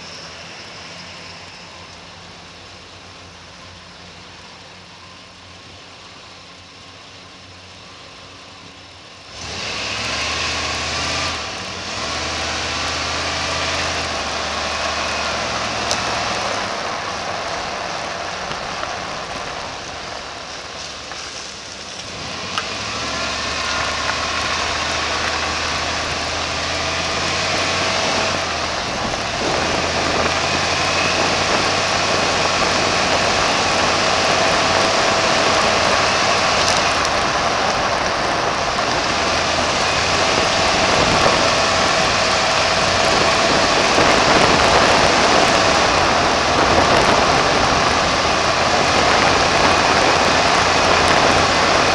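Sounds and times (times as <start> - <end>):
low engine drone: 0.0 - 51.9
wind and road noise: 0.0 - 51.9.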